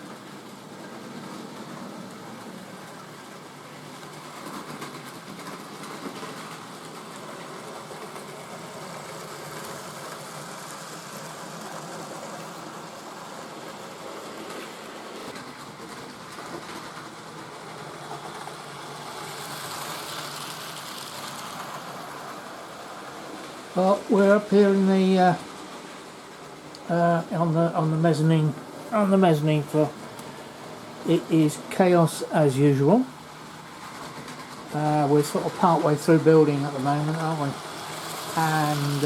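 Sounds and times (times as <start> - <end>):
model train whirring on track: 0.0 - 39.0.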